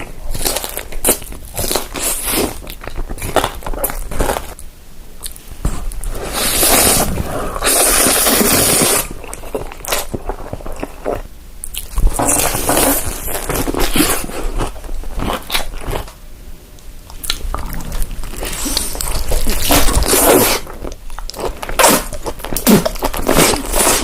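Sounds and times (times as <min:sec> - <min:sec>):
crunching and chewing crisp food: 0:00.0 - 0:16.2, 0:17.0 - 0:24.0.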